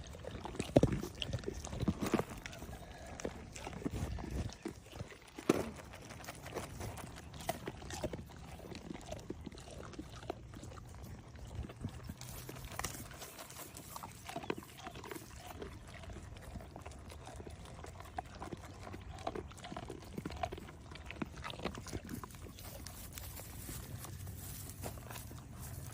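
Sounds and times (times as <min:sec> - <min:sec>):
goats chewing crunchily: 0:00.0 - 0:25.9.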